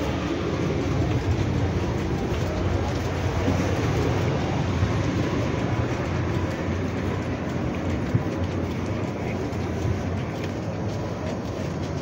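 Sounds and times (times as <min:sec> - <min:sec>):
standing train machinery hum: 0:00.0 - 0:12.0.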